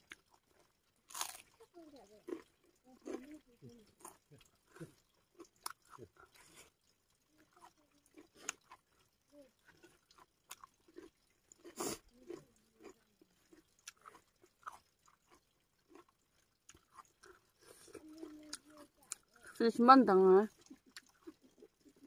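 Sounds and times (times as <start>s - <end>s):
person chewing food: 0.0s - 19.6s, 20.5s - 22.0s.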